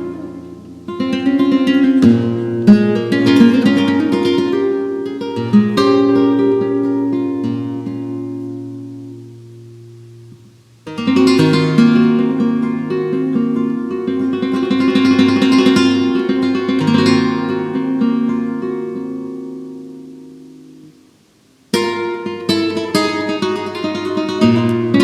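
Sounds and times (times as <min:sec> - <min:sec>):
flamenco guitar playing: 0:00.0 - 0:25.0.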